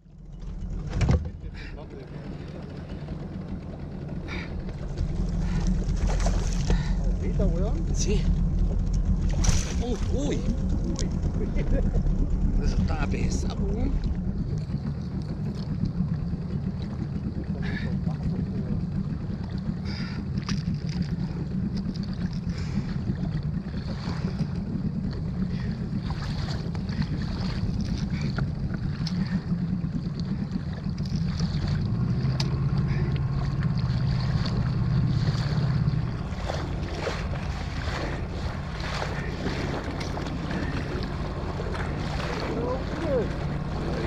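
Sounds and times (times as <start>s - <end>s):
outboard motor running: 0.0s - 44.0s.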